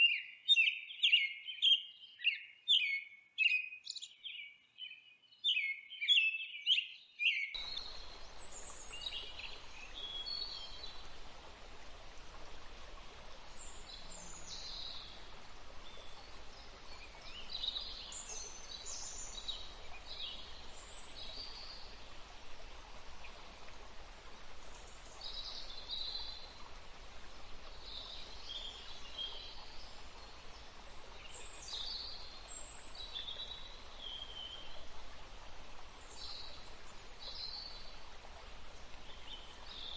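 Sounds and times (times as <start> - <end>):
songbirds chirping: 0.0 - 39.9
background hiss: 7.6 - 39.9.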